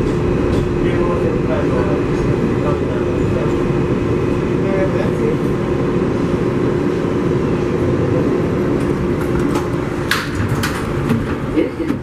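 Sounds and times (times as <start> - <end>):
subway car interior noise: 0.0 - 12.0.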